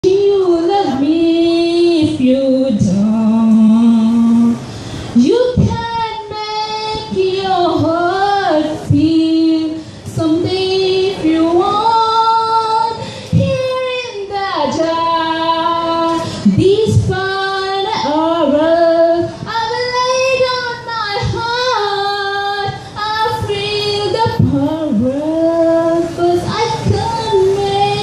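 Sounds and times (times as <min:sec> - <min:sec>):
woman singing: 0:00.0 - 0:04.6, 0:05.2 - 0:28.0.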